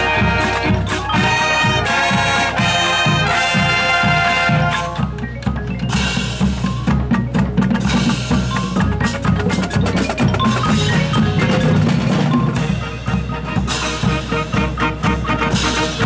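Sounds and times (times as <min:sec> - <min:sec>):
drums: 0:00.0 - 0:16.0
mallet keyboards: 0:00.0 - 0:16.0
marching band playing: 0:00.0 - 0:16.0.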